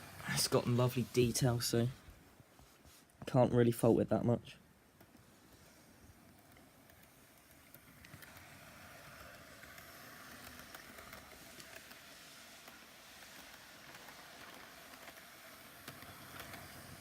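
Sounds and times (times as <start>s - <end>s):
model train motor whirring: 0.0s - 2.0s, 5.1s - 17.0s.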